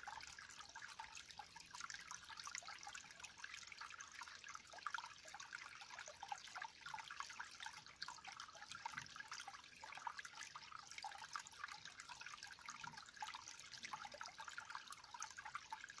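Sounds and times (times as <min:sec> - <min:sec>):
trickling water drips: 0:00.0 - 0:16.0.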